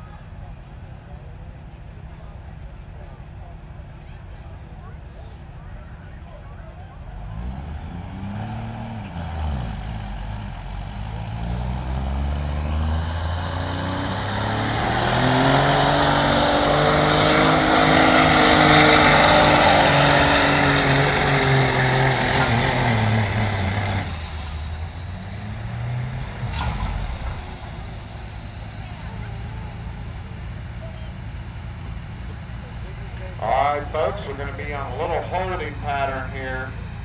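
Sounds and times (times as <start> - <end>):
diesel engine at full throttle: 0.0 - 37.0.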